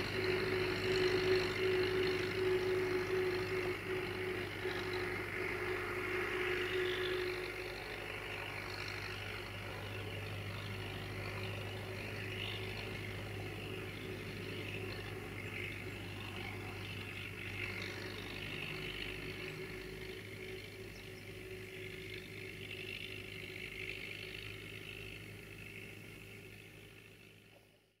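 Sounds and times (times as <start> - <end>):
distant diesel tractor engine: 0.0 - 28.0.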